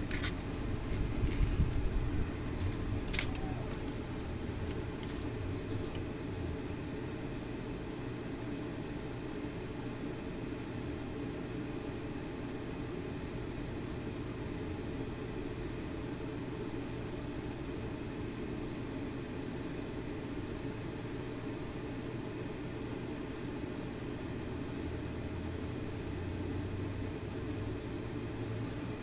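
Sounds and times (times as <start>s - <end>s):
low mechanical drone: 0.0s - 21.1s, 22.0s - 29.0s.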